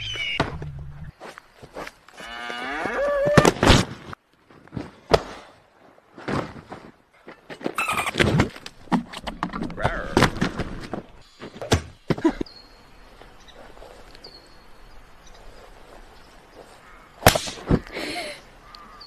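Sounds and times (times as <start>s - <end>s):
faint outdoor noise: 0.0s - 19.0s.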